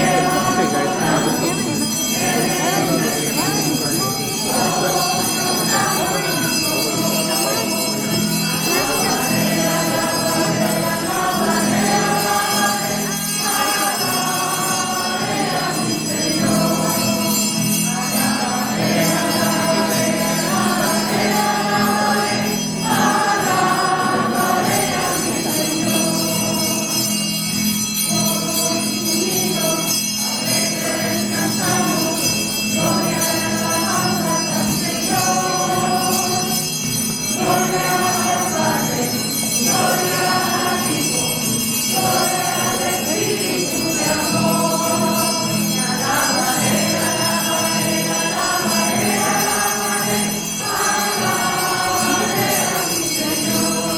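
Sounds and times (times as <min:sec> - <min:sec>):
choir singing a hymn: 0:00.0 - 0:27.4, 0:28.1 - 0:53.9.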